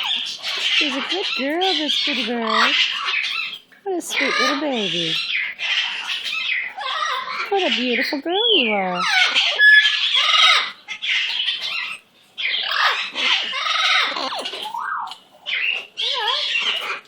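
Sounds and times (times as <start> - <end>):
bird raspy chattering calls: 0.0 - 17.0.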